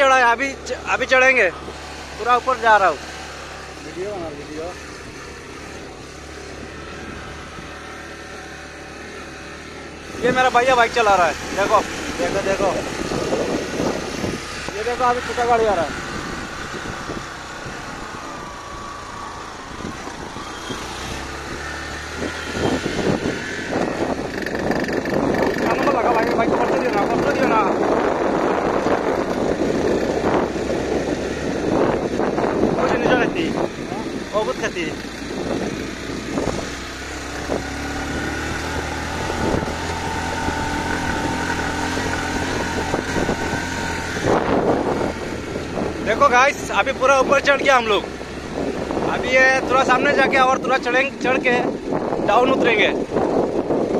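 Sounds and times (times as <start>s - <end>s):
car passing: 0.0s - 53.9s
motorcycle engine running: 0.0s - 53.9s.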